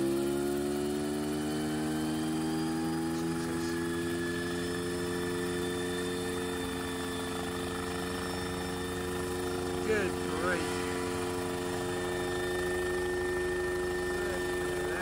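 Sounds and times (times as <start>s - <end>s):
helicopter engine and rotors spooling up: 0.0s - 15.0s.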